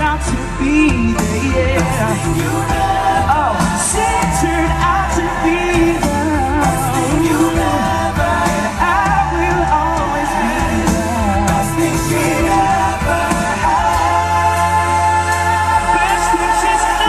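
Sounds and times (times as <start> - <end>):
instrumental backing with bass line: 0.0 - 17.0
male vocal group singing: 0.0 - 17.0.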